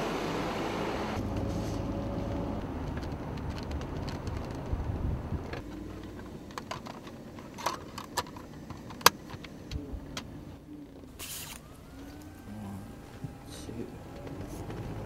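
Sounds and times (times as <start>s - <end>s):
low rumble inside a car: 0.0s - 15.0s
small rattles on a dashboard: 2.2s - 15.0s.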